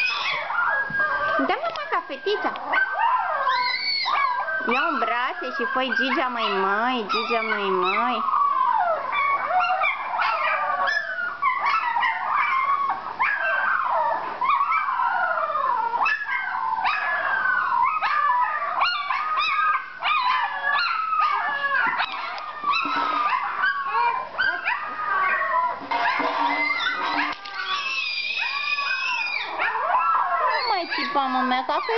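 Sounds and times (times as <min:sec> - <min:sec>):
puppies whining and crying: 0:00.0 - 0:31.9.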